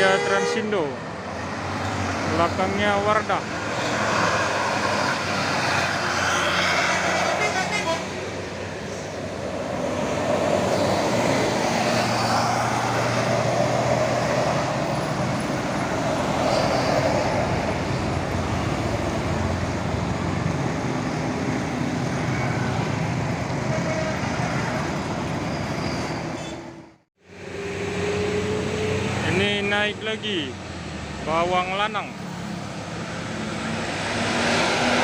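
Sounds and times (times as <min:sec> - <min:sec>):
road noise: 0:00.0 - 0:35.0
bus engine working hard: 0:01.0 - 0:29.9.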